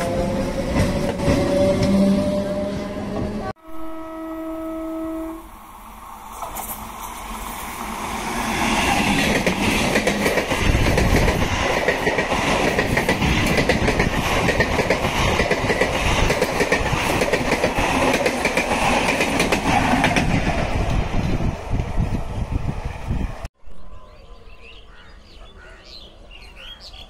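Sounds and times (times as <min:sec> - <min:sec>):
passenger train passing: 0:00.0 - 0:23.6.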